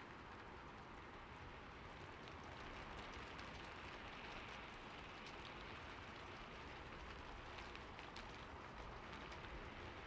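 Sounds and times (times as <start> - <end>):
rain on a roof: 0.0 - 10.0.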